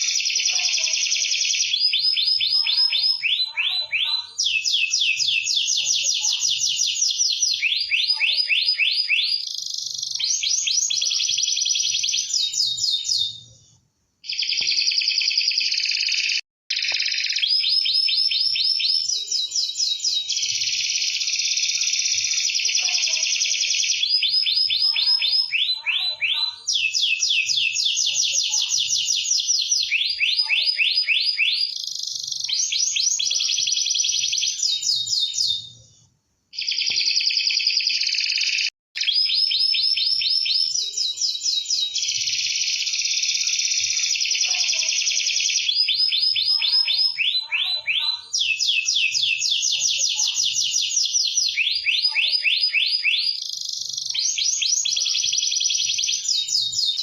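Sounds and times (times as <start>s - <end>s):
canary singing trills: 0.0s - 13.6s, 14.2s - 35.8s, 36.5s - 57.0s.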